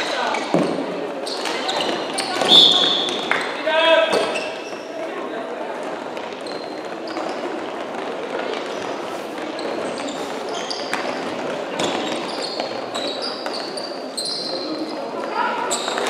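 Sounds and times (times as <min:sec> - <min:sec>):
shoes squeaking on court floor: 0:00.0 - 0:05.1, 0:05.8 - 0:16.0
echoing din of movement and voices: 0:00.0 - 0:16.0.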